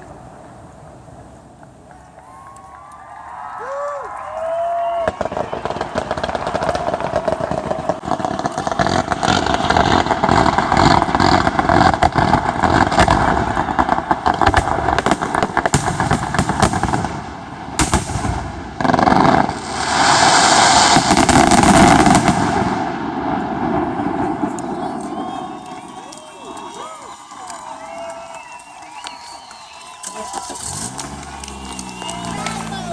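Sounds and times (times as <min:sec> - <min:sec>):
fireworks banging and crackling: 0:00.0 - 0:03.4, 0:04.4 - 0:32.9.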